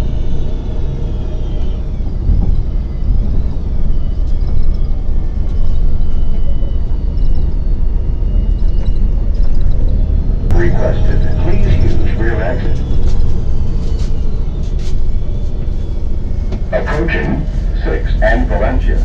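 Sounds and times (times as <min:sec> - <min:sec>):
bus engine and road rumble: 0:00.0 - 0:19.0
wavering high whine: 0:00.0 - 0:19.0.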